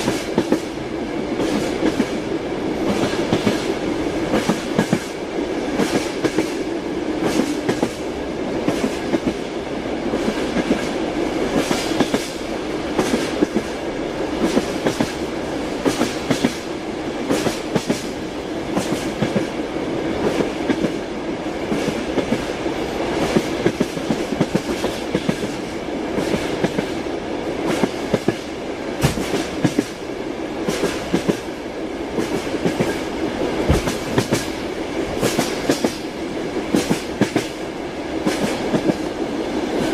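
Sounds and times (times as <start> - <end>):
train running rumble: 0.0 - 39.9
train wheels clickety-clack: 0.0 - 39.9.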